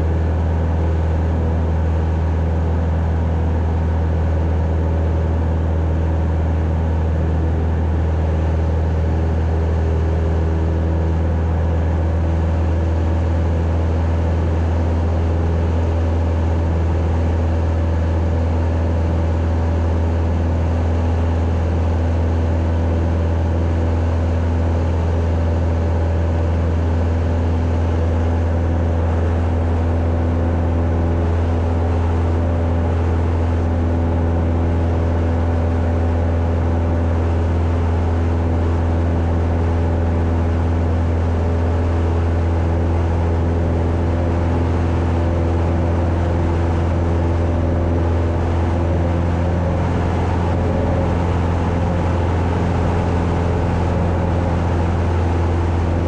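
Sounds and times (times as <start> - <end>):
piston engine and propeller drone: 0.0 - 56.0.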